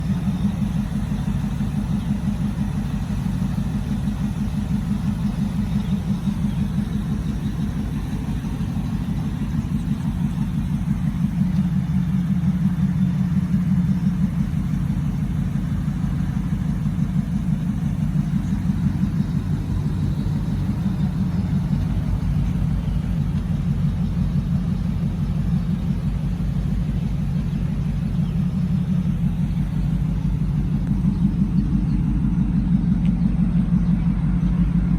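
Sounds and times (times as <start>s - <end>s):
engine idling with low rumble: 0.0s - 34.9s.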